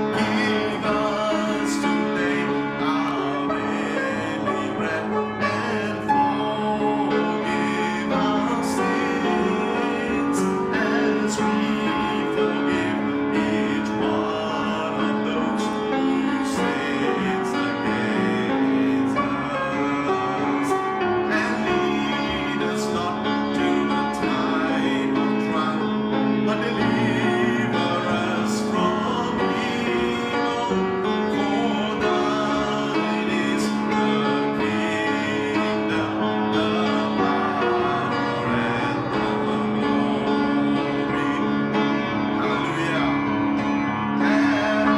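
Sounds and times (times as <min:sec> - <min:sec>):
band playing worship music: 0:00.0 - 0:44.9.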